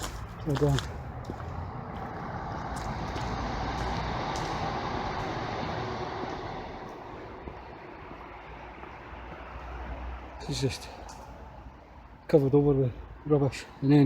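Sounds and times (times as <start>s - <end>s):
road vehicle passing by: 0.0s - 13.3s.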